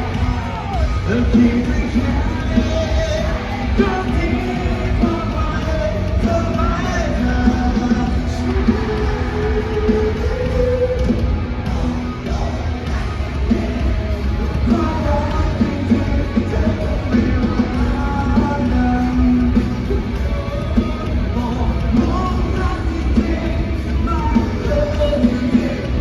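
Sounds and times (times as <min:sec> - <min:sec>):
heavy bass: 0:00.0 - 0:26.0
live rock band playing: 0:00.0 - 0:26.0.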